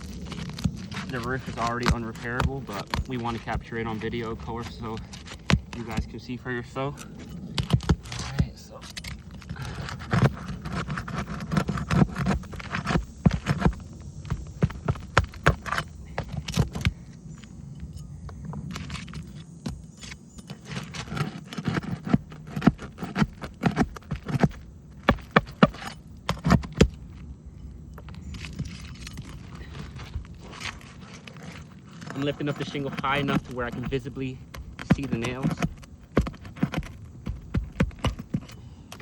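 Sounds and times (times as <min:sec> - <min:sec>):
metal tool scraping roof shingles: 0:00.0 - 0:17.1, 0:17.9 - 0:39.0.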